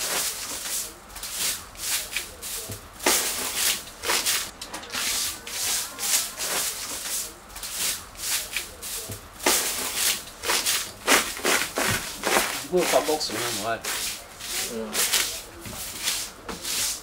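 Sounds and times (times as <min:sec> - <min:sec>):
brisk rubbing scrapes: 0:00.0 - 0:17.0.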